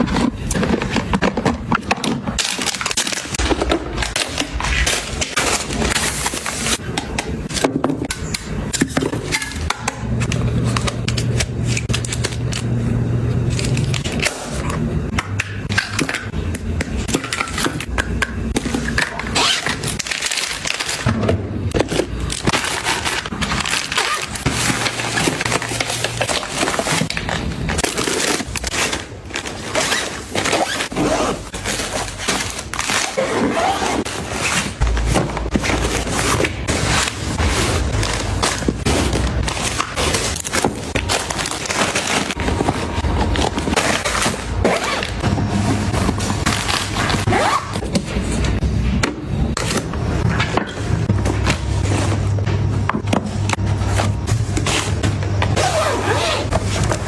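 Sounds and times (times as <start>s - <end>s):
plastic containers clicking and crinkling: 0.0s - 12.8s, 13.4s - 55.6s.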